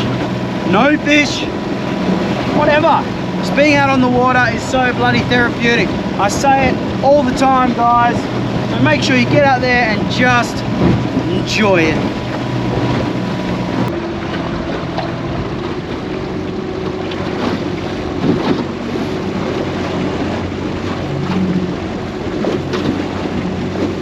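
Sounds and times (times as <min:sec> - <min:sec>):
outboard motor running: 0:00.0 - 0:24.0
water rushing past hull: 0:00.0 - 0:24.0
wind buffeting microphone: 0:00.0 - 0:24.0.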